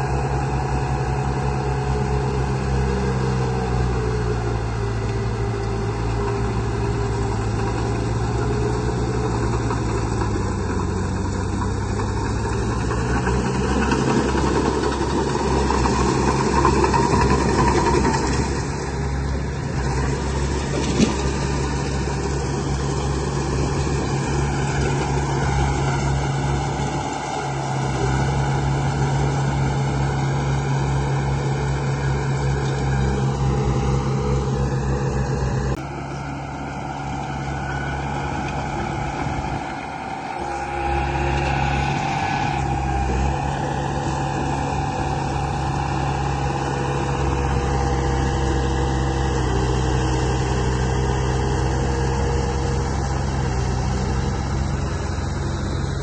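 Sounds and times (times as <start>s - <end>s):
construction machine engine chugging: 0.0s - 56.0s.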